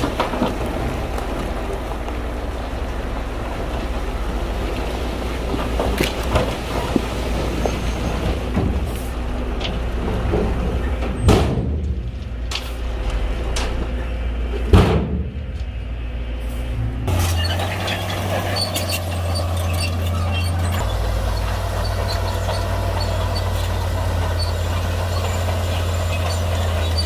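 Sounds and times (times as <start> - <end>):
bulldozer diesel engine droning: 0.0 - 27.0.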